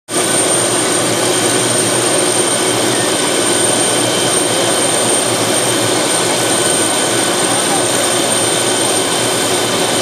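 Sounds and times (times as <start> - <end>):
engine and rotor rush: 0.1 - 10.0
helicopter turbine whine: 0.1 - 10.0.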